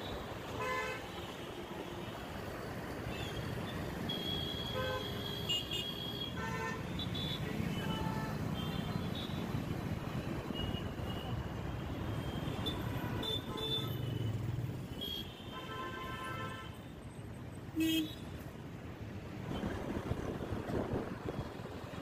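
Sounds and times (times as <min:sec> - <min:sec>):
motorbike and car traffic: 0:00.0 - 0:22.0.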